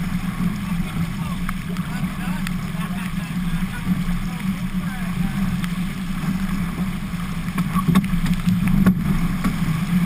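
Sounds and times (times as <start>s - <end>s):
water rushing along hull: 0.0s - 10.0s.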